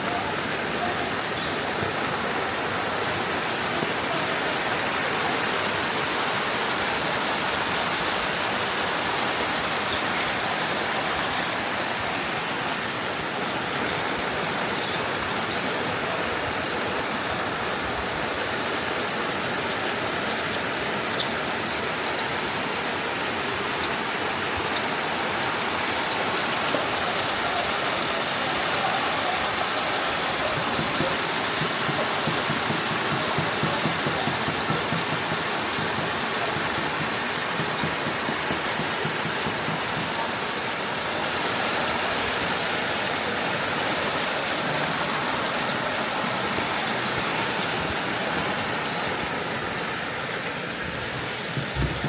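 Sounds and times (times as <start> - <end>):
stream water rushing: 0.0 - 52.0.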